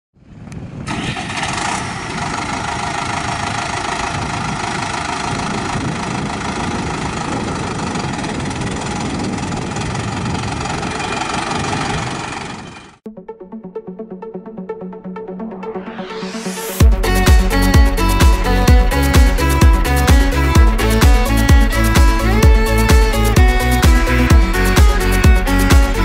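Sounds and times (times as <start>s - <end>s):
tractor engine running: 0.4s - 13.0s, 16.8s - 26.0s.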